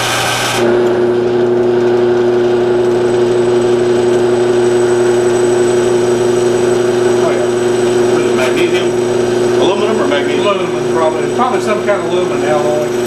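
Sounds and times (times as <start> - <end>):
drill press drilling metal: 0.0 - 13.0.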